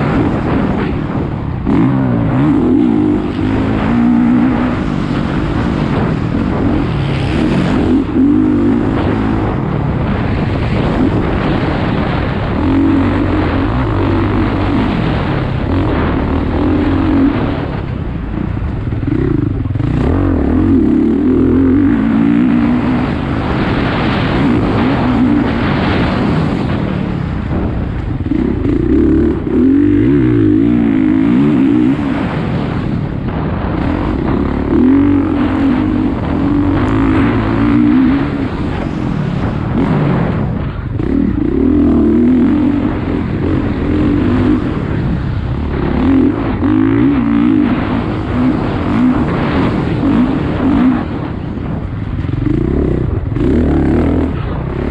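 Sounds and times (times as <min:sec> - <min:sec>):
engine revving on a track: 0:00.0 - 0:54.9
steady rushing noise: 0:00.0 - 0:54.9.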